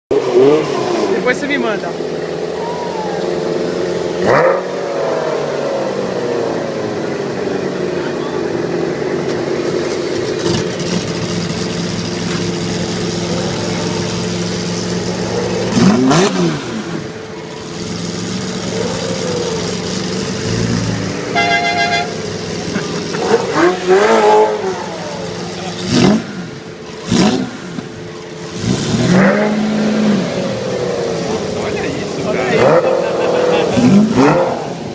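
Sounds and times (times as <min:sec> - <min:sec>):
engine revving: 0:00.1 - 0:02.3, 0:04.0 - 0:07.0, 0:09.3 - 0:34.9
car engine running: 0:06.2 - 0:34.9.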